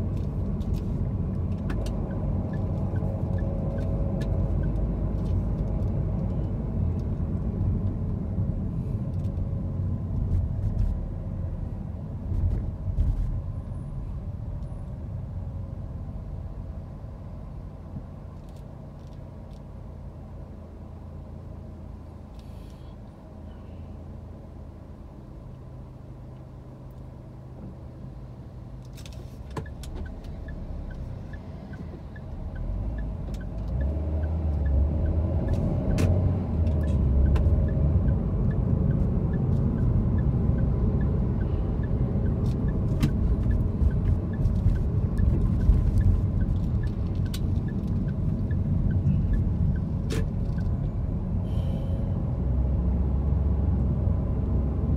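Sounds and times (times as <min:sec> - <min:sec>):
engine and tyre rumble: 0:00.0 - 0:54.9.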